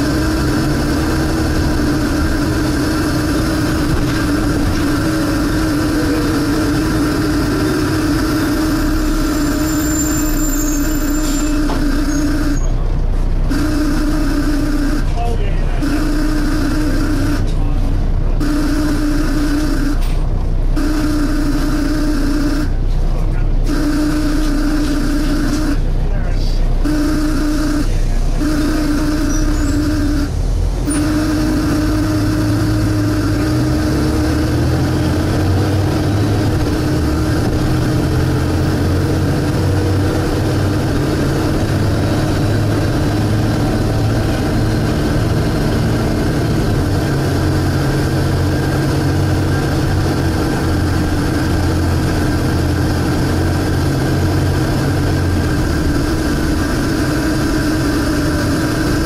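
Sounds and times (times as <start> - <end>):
droning suction noise: 0.0 - 12.8, 13.4 - 17.5, 18.4 - 20.2, 20.8 - 22.8, 23.6 - 25.9, 26.8 - 59.0
bus diesel engine running: 0.0 - 59.0.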